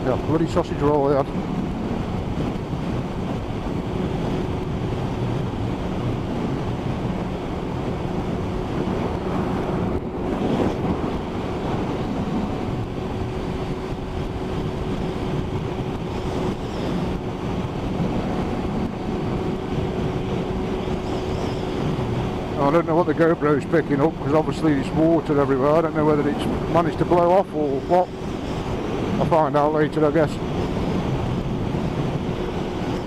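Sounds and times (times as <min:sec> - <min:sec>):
wind rush on microphone: 0:00.0 - 0:33.0.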